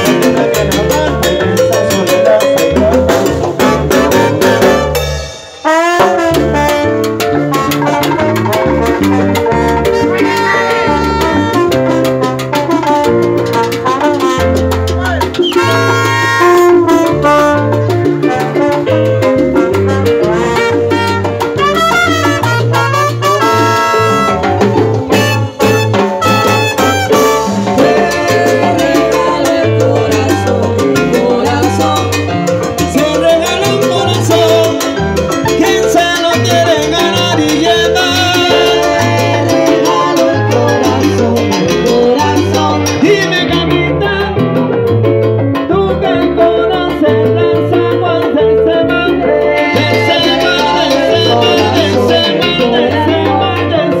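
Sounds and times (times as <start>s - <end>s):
brass line: 0.0s - 44.0s, 47.3s - 54.0s
electric bass: 0.0s - 54.0s
keyboard piano: 0.0s - 54.0s
salsa band playing: 0.0s - 54.0s.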